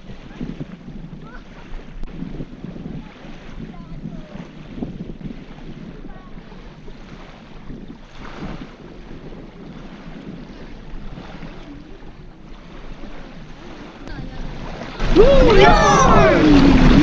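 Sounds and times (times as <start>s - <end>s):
small waves on sandy shore: 0.0s - 17.0s
wind on microphone: 0.0s - 17.0s.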